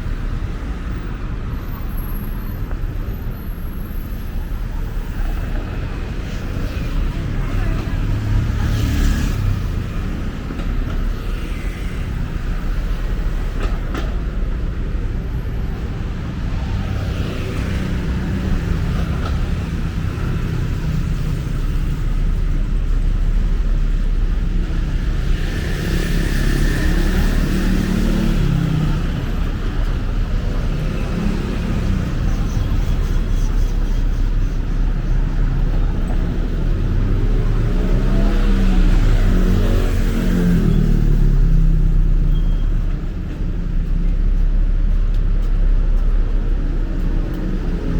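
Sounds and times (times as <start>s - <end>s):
passing traffic rumble: 0.0s - 47.9s.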